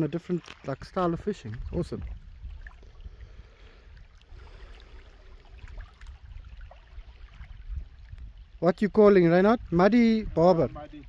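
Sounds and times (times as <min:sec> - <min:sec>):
water lapping at shore: 0:00.0 - 0:11.0
wind rumble on microphone: 0:00.8 - 0:11.0.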